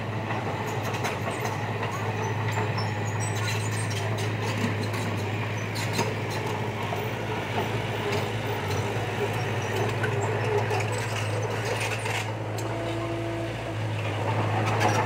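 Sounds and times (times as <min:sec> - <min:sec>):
construction machine engine running: 0:00.0 - 0:15.0.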